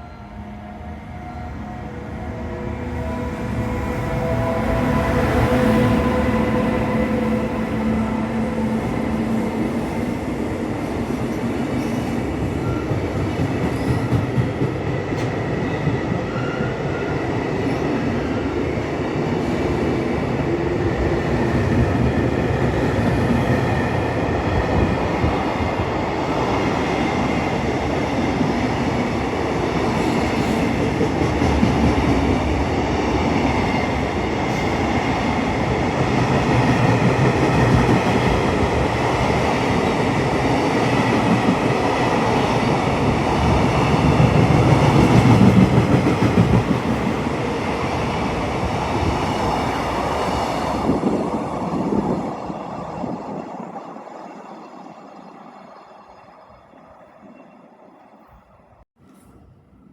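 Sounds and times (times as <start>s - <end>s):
train wheels rumbling on rails: 1.6s - 53.8s.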